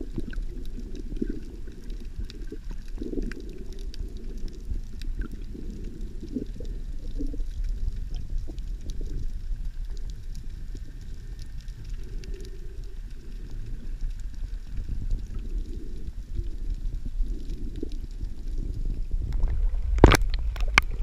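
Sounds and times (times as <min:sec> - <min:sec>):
faint clicks: 0:00.0 - 0:21.0
muffled underwater water rumble: 0:00.0 - 0:21.0.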